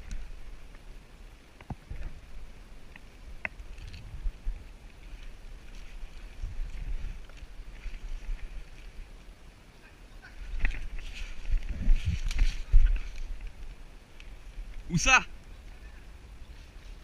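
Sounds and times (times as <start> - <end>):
rustling in undergrowth: 0.0 - 17.0.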